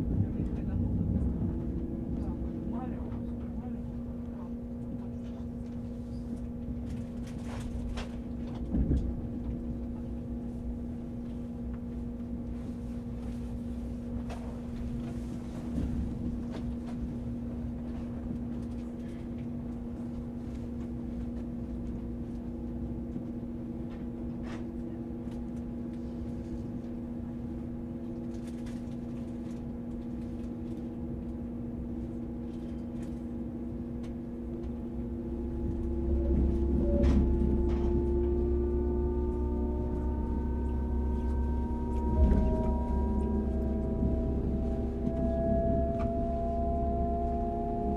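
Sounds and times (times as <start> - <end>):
constant hum: 0.0 - 47.9
train cabin rumble: 0.0 - 47.9.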